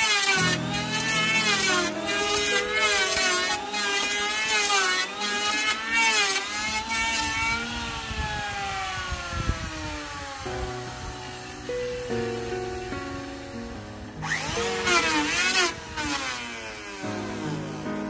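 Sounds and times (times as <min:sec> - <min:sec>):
electric planer cutting wood: 0:00.0 - 0:18.0.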